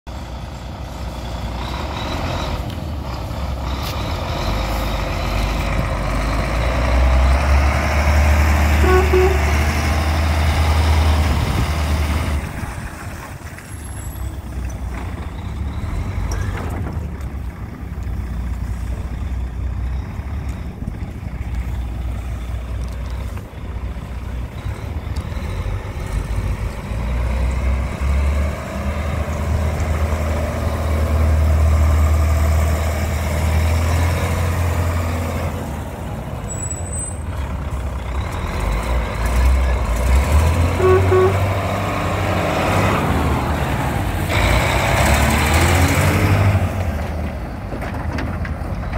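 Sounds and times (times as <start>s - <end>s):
diesel truck engine revving: 0.1s - 48.9s.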